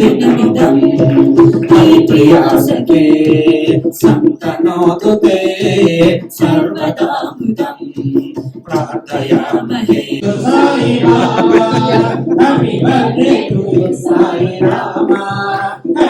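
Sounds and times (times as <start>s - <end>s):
choir singing with music: 0.0s - 16.0s.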